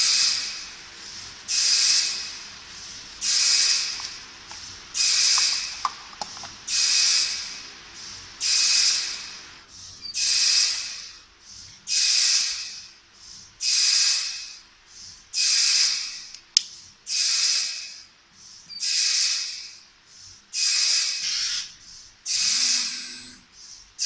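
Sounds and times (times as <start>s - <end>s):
compressed air hissing: 0.0s - 5.8s, 6.7s - 24.0s.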